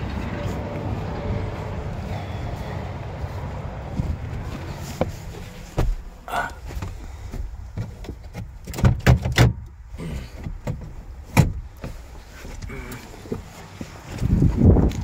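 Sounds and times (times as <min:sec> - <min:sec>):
rustle against cloth seats: 0:00.3 - 0:08.6, 0:10.5 - 0:15.0.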